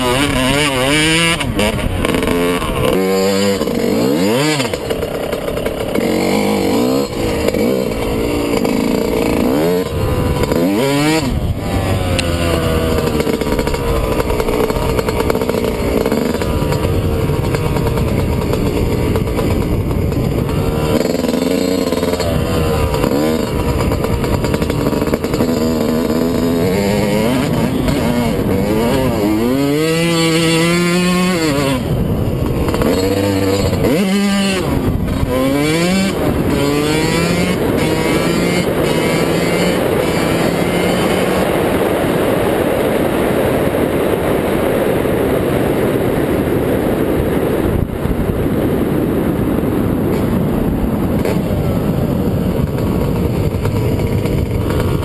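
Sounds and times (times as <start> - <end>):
dirt bike engine revving: 0.0 - 45.9, 49.0 - 55.0.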